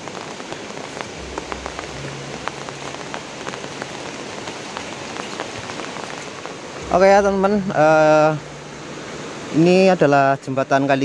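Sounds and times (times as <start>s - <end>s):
raindrops ticking: 0.0s - 11.0s
steady rain: 0.0s - 11.0s.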